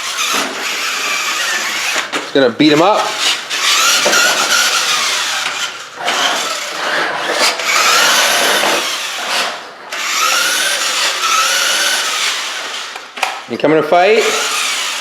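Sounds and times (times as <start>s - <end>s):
toy truck electric motor whirring: 0.0s - 2.3s, 2.9s - 13.3s, 14.2s - 15.0s.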